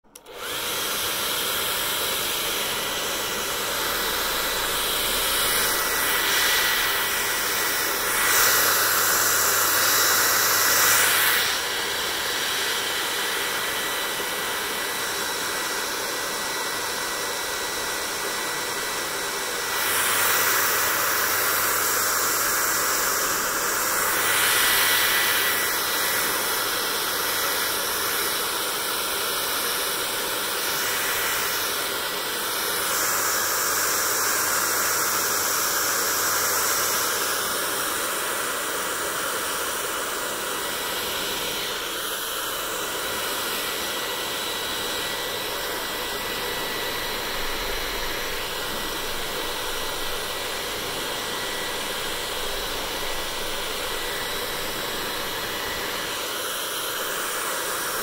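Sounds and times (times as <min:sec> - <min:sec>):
hair dryer blowing: 0:00.0 - 0:58.0.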